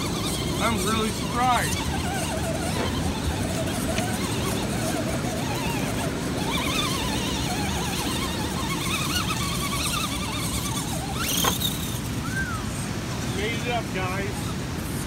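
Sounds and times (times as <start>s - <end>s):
electric motor and gears whining: 0.0s - 15.0s.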